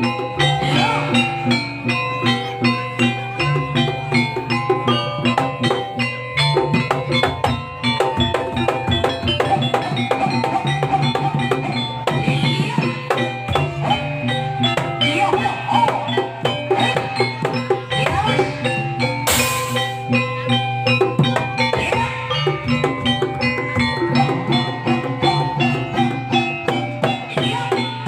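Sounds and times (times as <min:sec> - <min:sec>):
percussion ensemble with gongs: 0:00.0 - 0:28.0.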